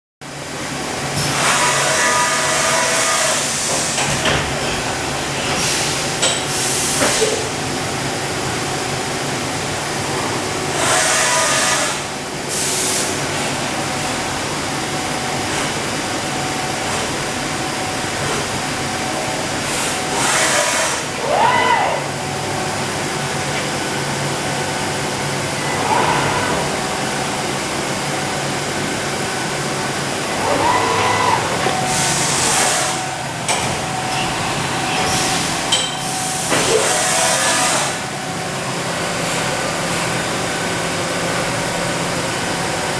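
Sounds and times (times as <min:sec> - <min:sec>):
machinery humming: 0:00.3 - 0:42.9.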